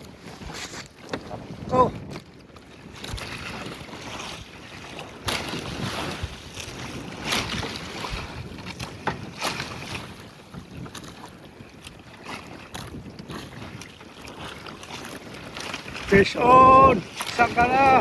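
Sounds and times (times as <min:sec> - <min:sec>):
moving water: 0:00.0 - 0:18.0
wind buffeting microphone: 0:00.0 - 0:18.0.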